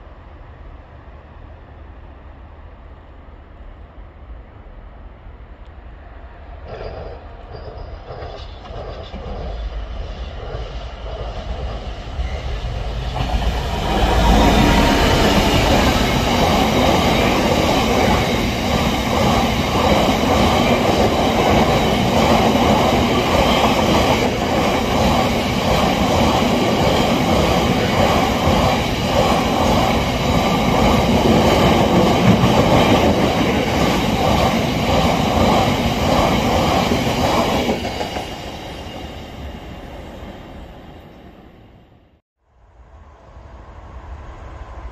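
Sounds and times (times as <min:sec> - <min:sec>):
freight train wagons rumbling past: 0:03.6 - 0:42.1.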